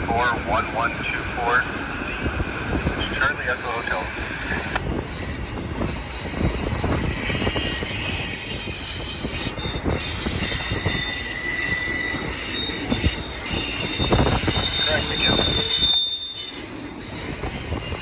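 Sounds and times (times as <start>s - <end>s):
train wheels rumbling and clattering: 0.0s - 18.0s
train wheels squealing on rails: 3.0s - 18.0s.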